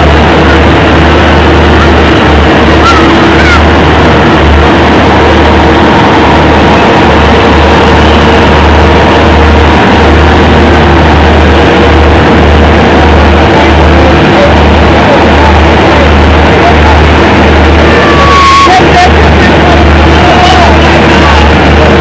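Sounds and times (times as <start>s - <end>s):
diesel engines humming: 0.0s - 22.0s.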